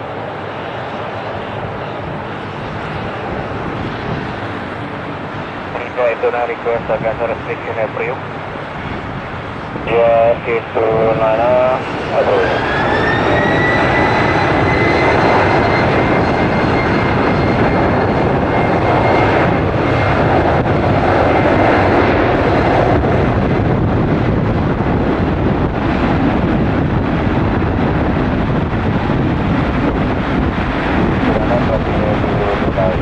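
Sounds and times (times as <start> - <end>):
high engine whine: 0.0 - 33.0
jet engines roaring: 0.0 - 33.0.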